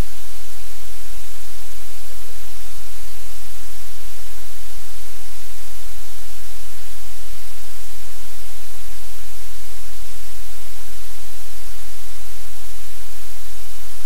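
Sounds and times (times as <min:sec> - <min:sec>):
static hiss: 0:00.0 - 0:14.0.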